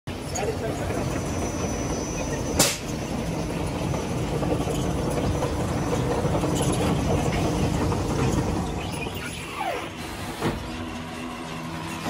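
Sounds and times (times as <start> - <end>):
belt conveyor machinery hum: 0.1 - 12.0.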